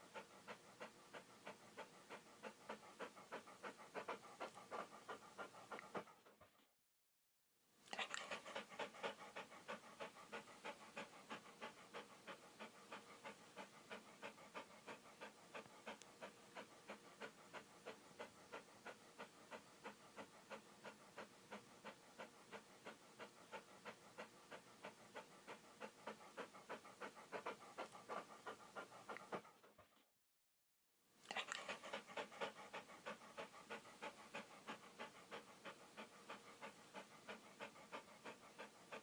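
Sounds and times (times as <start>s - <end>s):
dog panting: 0.0s - 6.8s, 7.9s - 30.1s, 31.3s - 39.0s.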